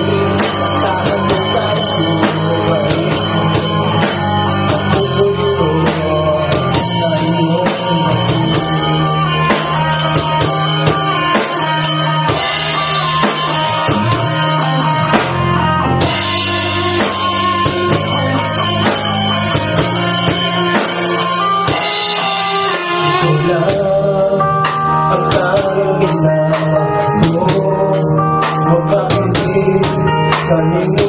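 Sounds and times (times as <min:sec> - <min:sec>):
man singing into microphone: 0:00.0 - 0:15.2, 0:15.9 - 0:31.0
drum kit: 0:00.0 - 0:31.0
electric bass: 0:00.0 - 0:31.0
electric guitar: 0:00.0 - 0:31.0.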